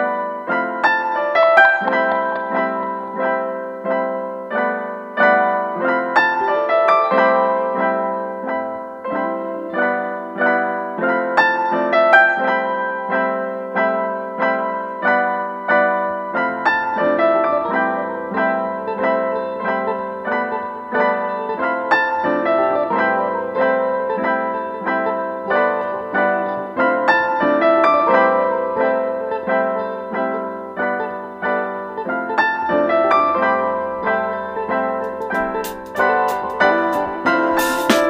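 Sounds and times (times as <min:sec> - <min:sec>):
piano melody: 0:00.0 - 0:38.0.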